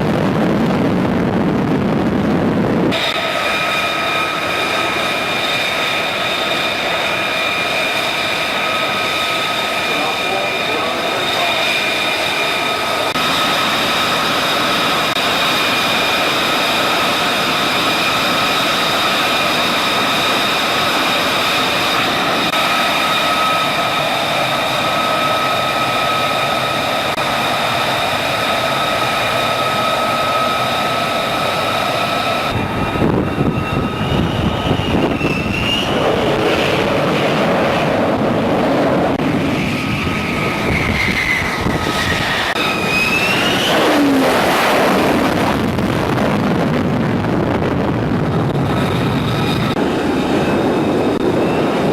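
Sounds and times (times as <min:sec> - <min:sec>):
deep rough jet roar: 0:00.0 - 0:51.9
jet engine turbine whine: 0:00.0 - 0:51.9.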